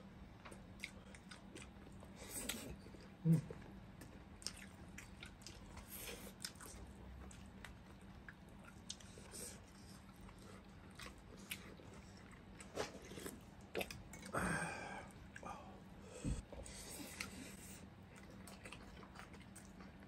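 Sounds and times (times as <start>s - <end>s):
people chewing and smacking: 0.3s - 20.0s.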